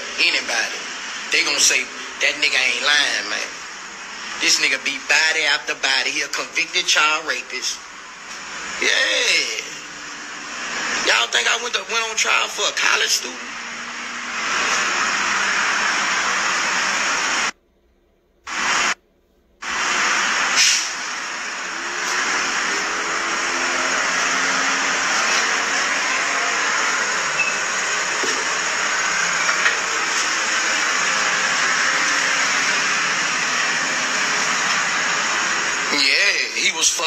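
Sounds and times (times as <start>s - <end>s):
loud steady hiss: 0.0s - 17.5s, 18.5s - 19.0s, 19.6s - 37.0s.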